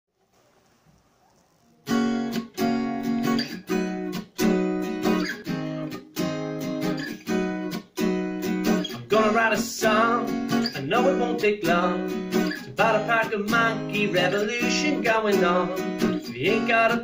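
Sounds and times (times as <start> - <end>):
acoustic guitar strumming chords: 1.9 - 17.0.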